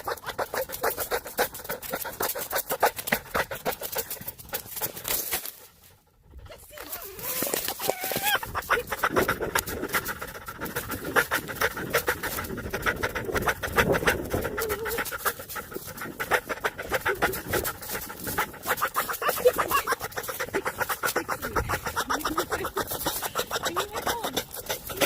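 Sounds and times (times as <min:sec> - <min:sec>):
dog panting: 0:00.0 - 0:25.0.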